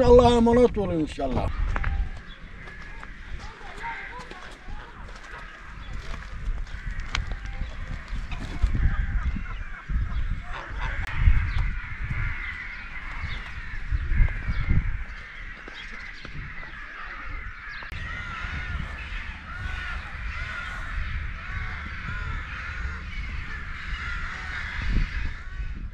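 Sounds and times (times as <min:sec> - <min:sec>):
birds chirping: 0:00.0 - 0:25.9
wind rumble on microphone: 0:00.0 - 0:25.9.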